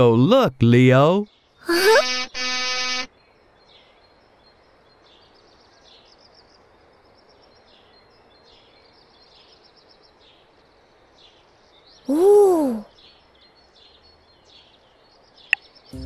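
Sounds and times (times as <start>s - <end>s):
small birds chirping: 0.0s - 2.0s, 2.8s - 16.0s.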